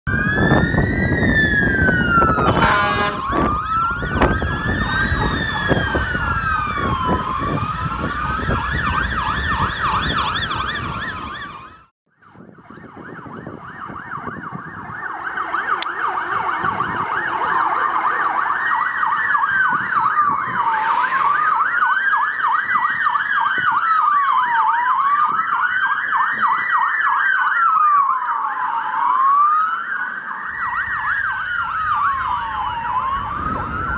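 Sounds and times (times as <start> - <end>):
engine and road noise: 0.1 - 33.9
fire truck sirens wailing: 0.1 - 33.9.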